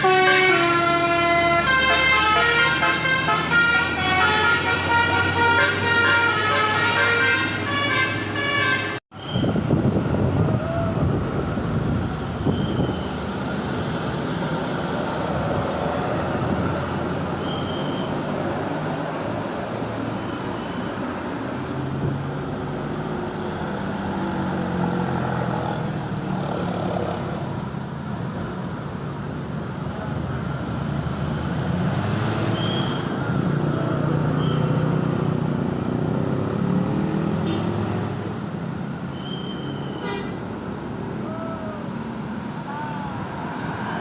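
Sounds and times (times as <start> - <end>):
road traffic roar: 0.0 - 44.0
vehicles passing close: 0.0 - 44.0.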